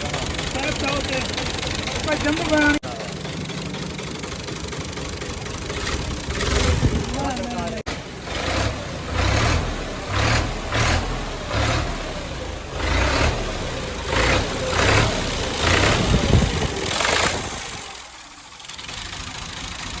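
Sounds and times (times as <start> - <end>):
tractor diesel engine surging: 0.0 - 20.0.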